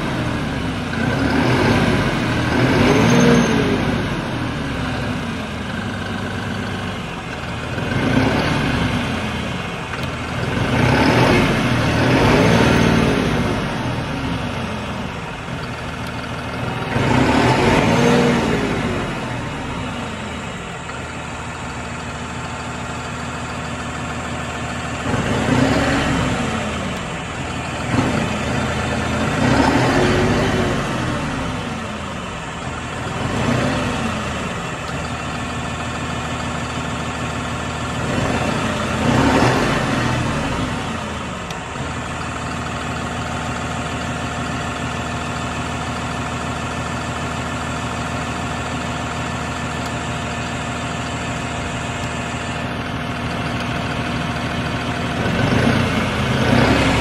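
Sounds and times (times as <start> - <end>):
diesel tractor engine revving and idling: 0.0 - 57.0.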